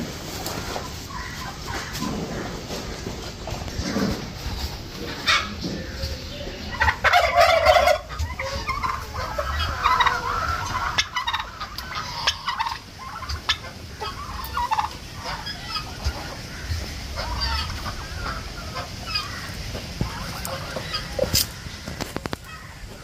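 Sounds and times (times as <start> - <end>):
fowl calling: 0.0 - 23.0.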